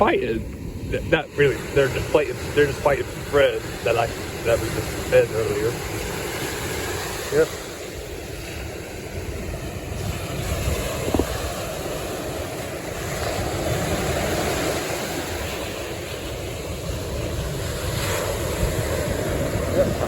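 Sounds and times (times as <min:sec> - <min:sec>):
ocean surf washing in: 0:00.0 - 0:20.0
wind buffeting microphone: 0:00.0 - 0:20.0.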